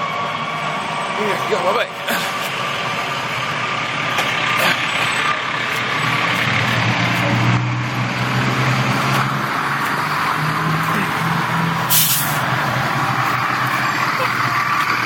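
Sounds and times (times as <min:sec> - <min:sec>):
fire truck engine droning: 0:00.0 - 0:15.0.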